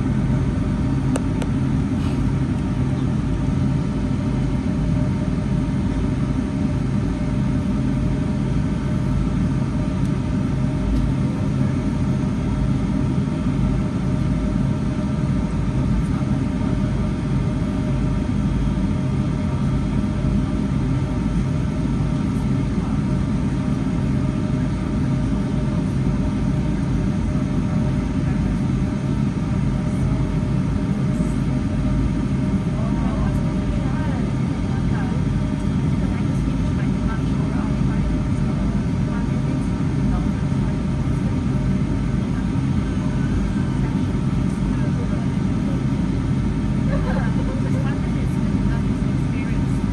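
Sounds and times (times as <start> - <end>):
jet engine drone in cabin: 0.0 - 49.9
steady hum tones: 0.0 - 49.9.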